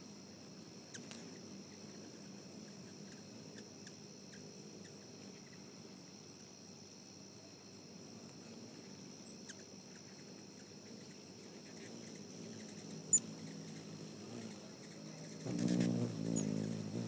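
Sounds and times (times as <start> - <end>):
insect chorus trilling: 0.0 - 17.0.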